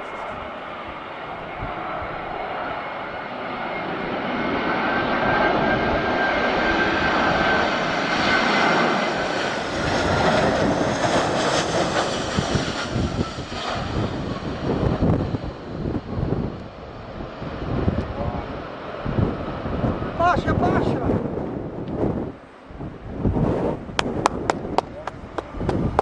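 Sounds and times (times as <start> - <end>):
jet engines roaring: 0.0 - 26.0
wind buffeting microphone: 0.0 - 26.0.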